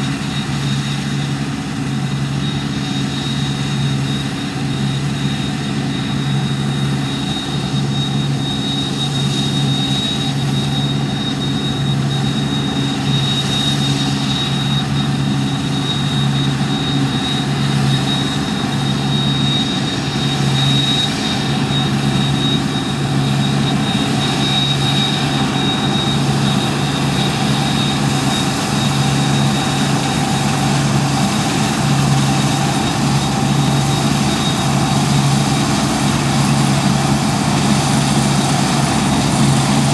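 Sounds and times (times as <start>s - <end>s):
combine harvester engine drone: 0.0s - 39.9s
high-pitched whine: 0.0s - 39.9s.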